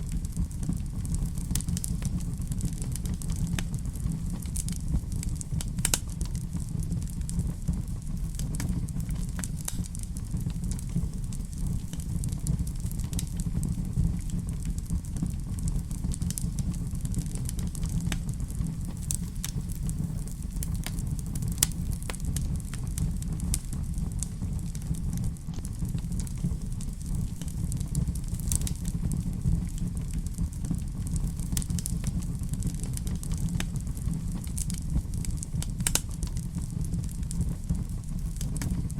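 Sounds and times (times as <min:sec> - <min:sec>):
low rumble: 0:00.0 - 0:38.9
wood fire crackling and popping: 0:00.0 - 0:38.9.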